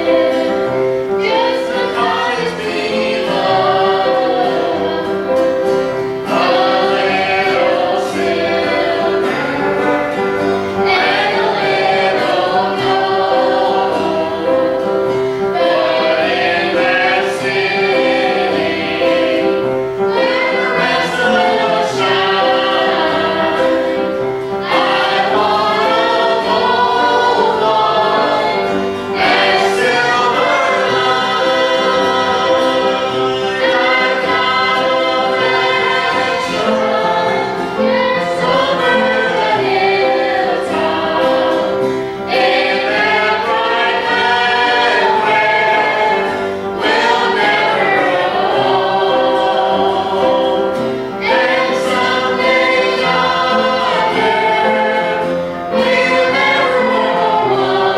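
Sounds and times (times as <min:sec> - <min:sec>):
group singing gospel in harmony: 0:00.0 - 0:57.9.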